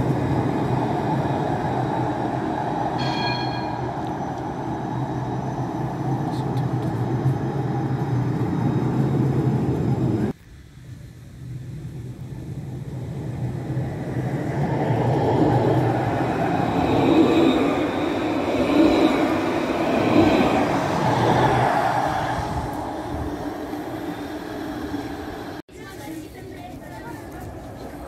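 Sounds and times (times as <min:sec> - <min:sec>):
tram approaching on rails: 0:00.0 - 0:28.0
tram noise: 0:00.0 - 0:28.0.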